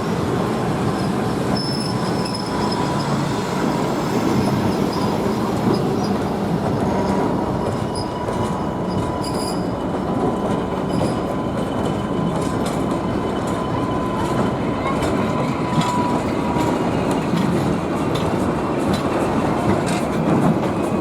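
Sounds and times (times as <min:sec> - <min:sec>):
train wheels rumbling on track: 0:00.0 - 0:21.0
wheels squealing against rail: 0:00.0 - 0:21.0.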